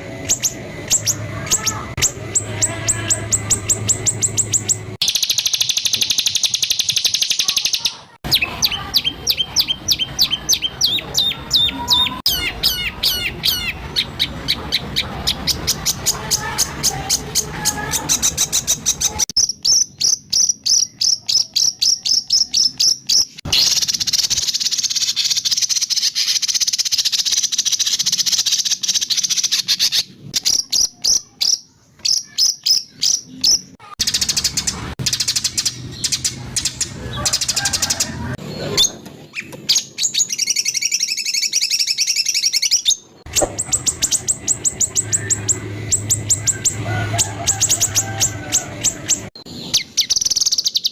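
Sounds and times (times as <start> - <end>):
songbird chirps and trills: 0.0 - 50.9.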